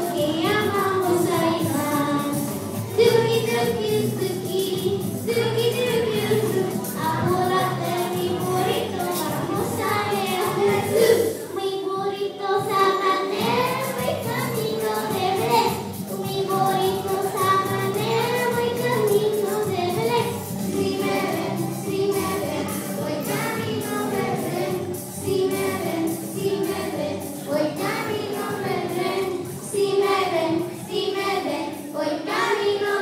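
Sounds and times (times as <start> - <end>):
musical accompaniment with steady beat: 0.0 - 11.5, 12.6 - 32.6
children's choir singing: 0.0 - 33.0.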